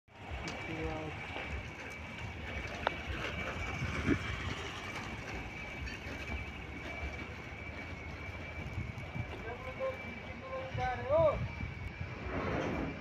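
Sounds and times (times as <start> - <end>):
distant machinery and vehicles rumble: 0.1 - 13.0
thin high whine: 0.2 - 13.0.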